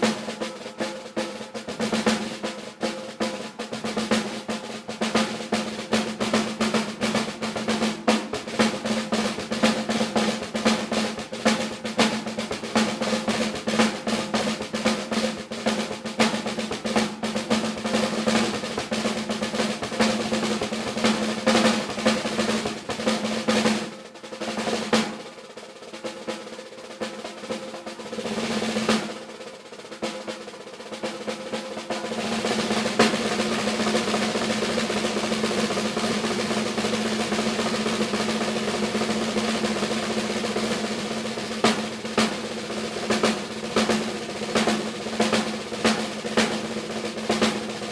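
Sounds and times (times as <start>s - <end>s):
snare drum rolls: 0.0s - 47.9s.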